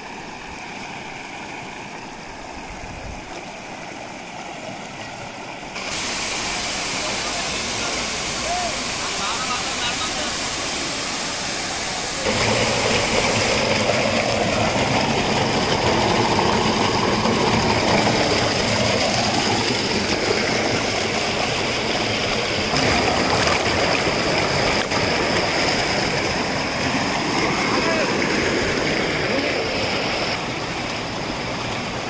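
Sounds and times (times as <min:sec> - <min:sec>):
water rushing over rocks: 0:00.0 - 0:32.0.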